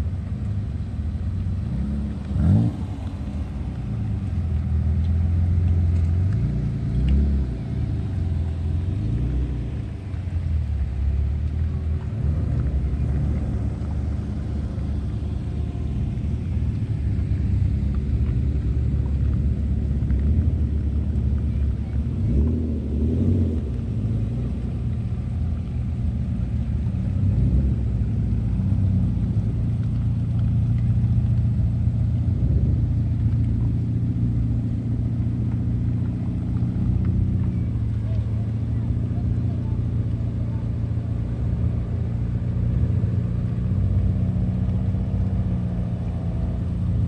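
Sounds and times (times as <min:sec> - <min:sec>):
car engine running: 0:00.0 - 0:47.0
road rumble: 0:00.0 - 0:47.0.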